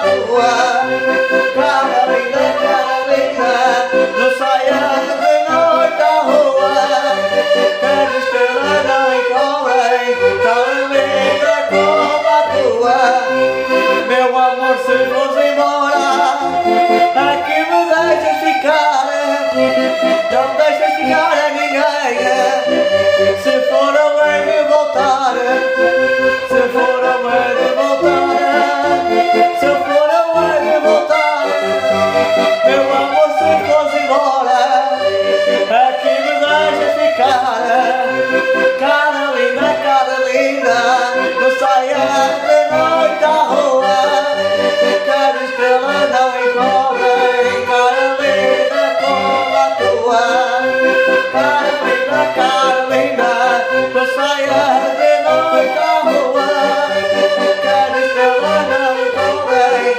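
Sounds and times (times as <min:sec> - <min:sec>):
button accordion playing a tune: 0:00.0 - 0:59.9.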